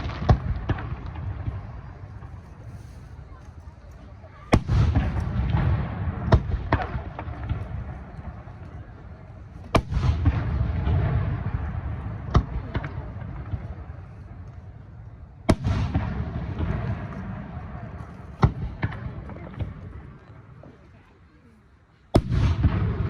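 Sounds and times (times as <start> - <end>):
fireworks bursting: 0.0 - 3.4, 4.1 - 20.6, 22.1 - 23.0.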